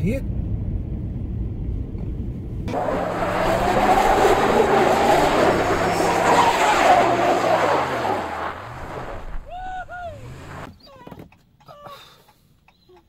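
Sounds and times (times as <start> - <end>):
vehicle engine and road noise: 0.0 - 11.6.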